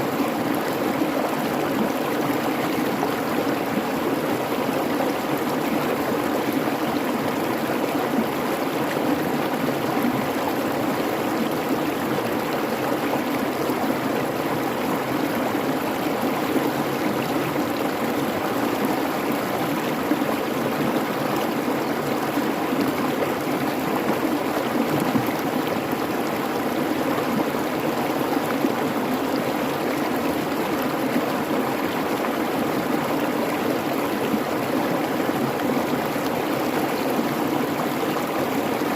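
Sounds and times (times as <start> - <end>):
creek babbling: 0.0 - 38.9.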